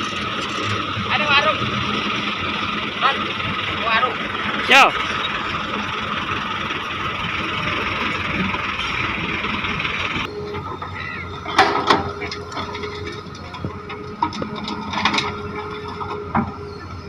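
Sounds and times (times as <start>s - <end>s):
heavy machinery running: 0.0s - 17.0s.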